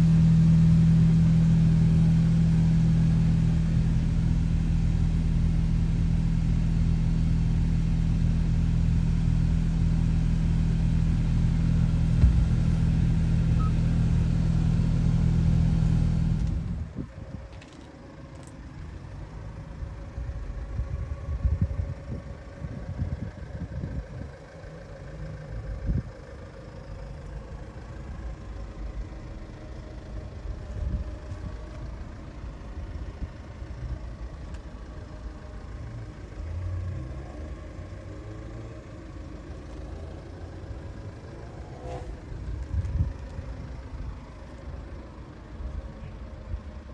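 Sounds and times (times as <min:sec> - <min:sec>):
car engine low rumble: 0:00.0 - 0:46.9.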